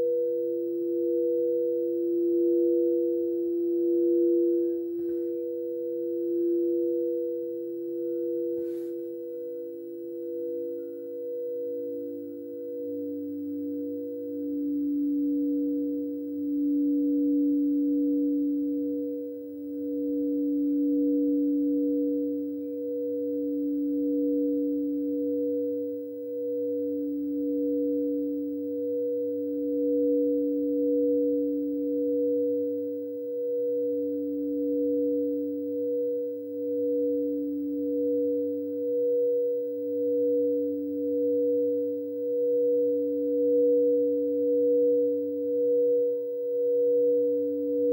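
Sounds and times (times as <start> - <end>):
high singing bowl tone: 0.0 - 47.9
low singing bowl tone: 0.0 - 47.9.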